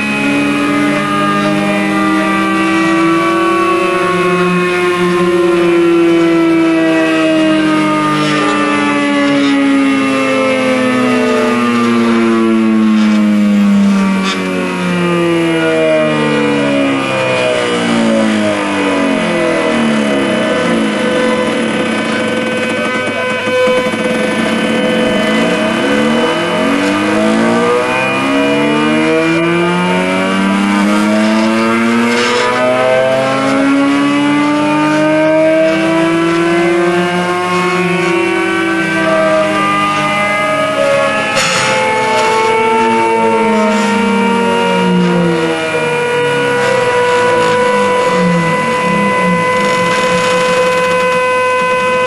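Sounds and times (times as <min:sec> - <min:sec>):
stepper motors whining: 0:00.0 - 0:52.0.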